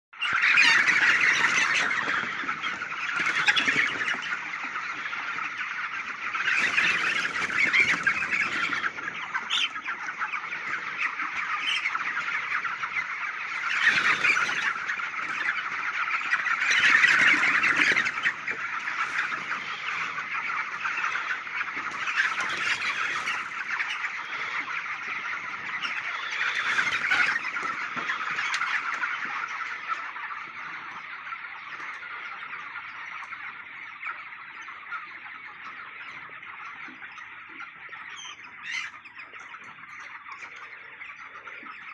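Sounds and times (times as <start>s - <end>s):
flock of poultry calling: 0.2s - 41.9s.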